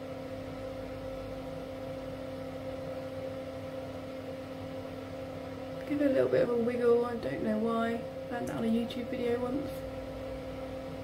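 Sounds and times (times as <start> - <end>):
appliance hum with faint hiss: 0.0 - 11.0.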